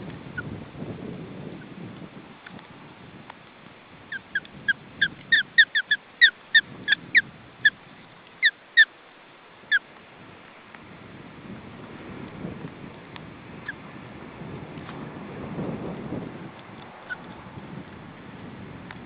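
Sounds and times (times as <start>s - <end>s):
faint wind rumble: 0.0s - 19.0s.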